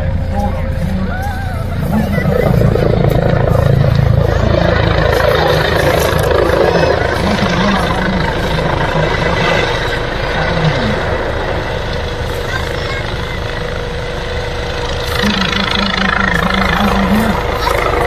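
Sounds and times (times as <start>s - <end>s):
faint turbine whine: 0.0s - 18.0s
helicopter flying overhead: 0.0s - 18.0s.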